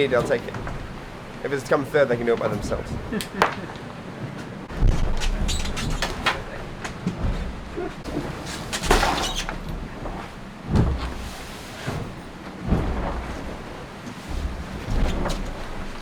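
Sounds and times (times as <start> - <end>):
water rushing: 0.0 - 16.0
yacht hull slamming into waves: 0.0 - 16.0.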